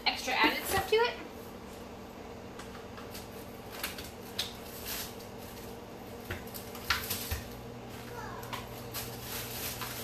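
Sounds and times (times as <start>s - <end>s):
refrigerator hum: 0.0s - 10.0s.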